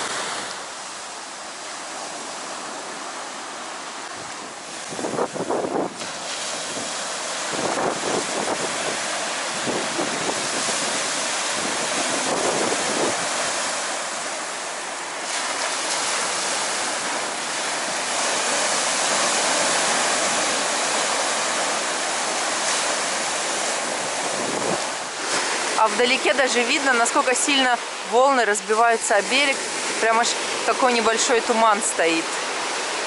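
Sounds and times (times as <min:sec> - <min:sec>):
surf breaking on beach: 0:00.0 - 0:33.0.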